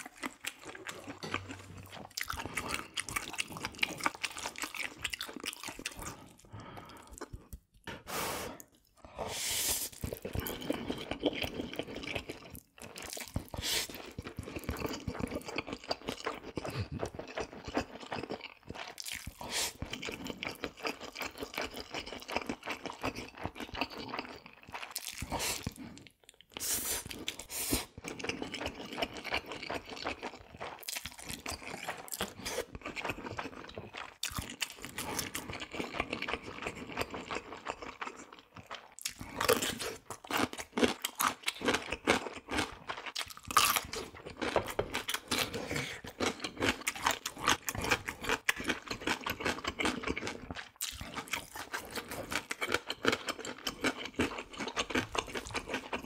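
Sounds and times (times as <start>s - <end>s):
chewing and crunching: 0.0s - 8.0s, 9.9s - 56.0s.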